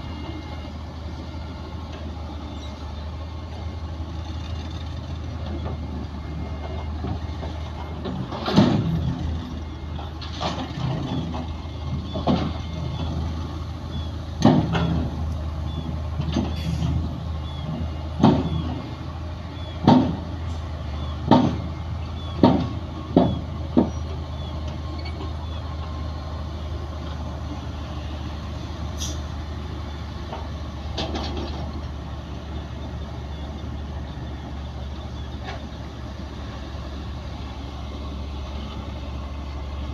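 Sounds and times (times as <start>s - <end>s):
heavy diesel machinery droning: 0.0s - 39.9s.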